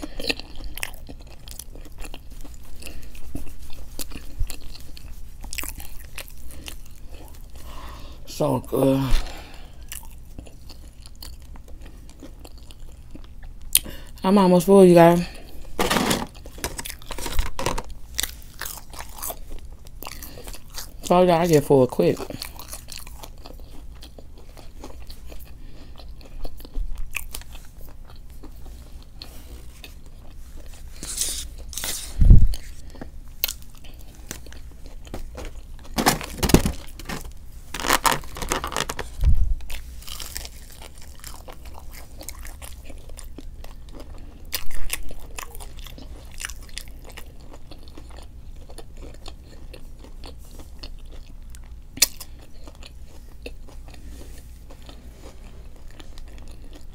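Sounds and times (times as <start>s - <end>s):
chewing and biting food: 0.0s - 7.8s, 9.2s - 14.2s, 15.2s - 21.2s, 21.9s - 56.9s.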